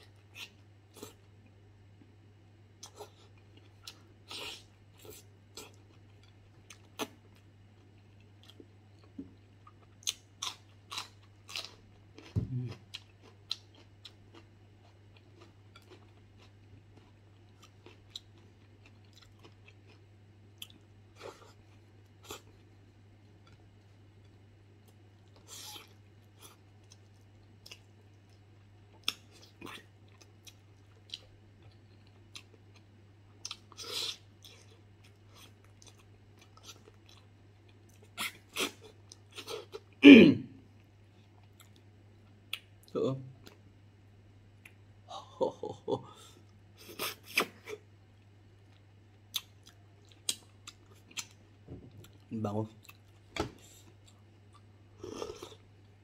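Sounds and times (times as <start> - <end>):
steady low hum: 0.0 - 56.0
person chewing: 2.8 - 22.7, 23.4 - 40.0, 40.8 - 43.6, 46.4 - 51.4, 52.0 - 56.0.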